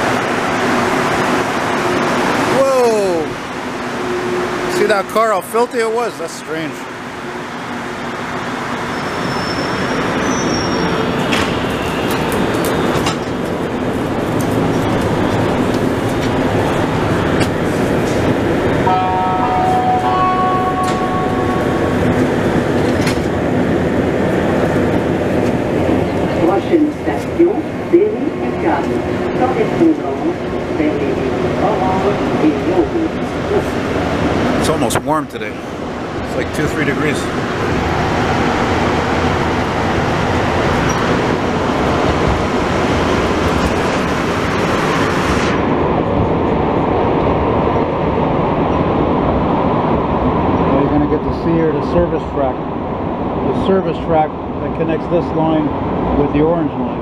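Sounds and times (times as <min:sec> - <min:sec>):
metro train running rumble: 0:00.0 - 0:57.0.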